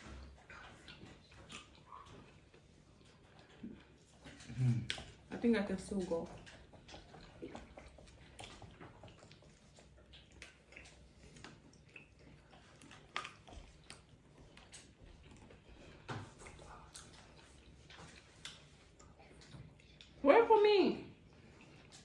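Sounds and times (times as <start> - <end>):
people chewing and biting: 0.0 - 20.2, 21.2 - 22.0.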